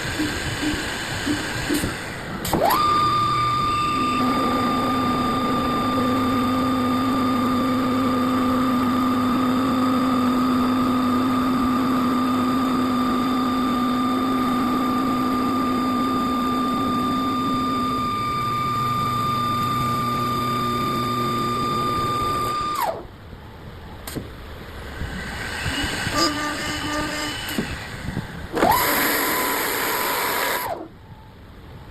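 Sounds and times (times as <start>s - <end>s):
wood lathe whining: 0.0s - 23.1s, 24.8s - 30.9s
low machine hum: 0.0s - 31.9s.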